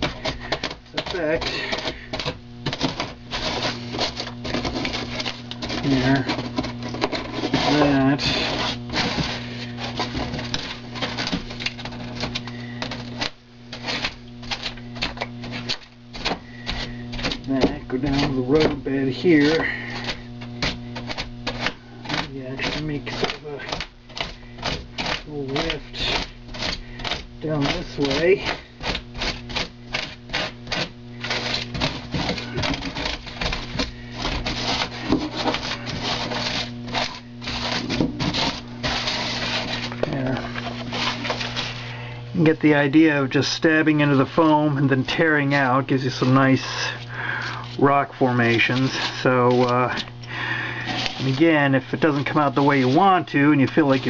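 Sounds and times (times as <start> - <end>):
foam tearing with crackling snaps: 0.0 - 50.2
steady low hum: 0.0 - 54.0.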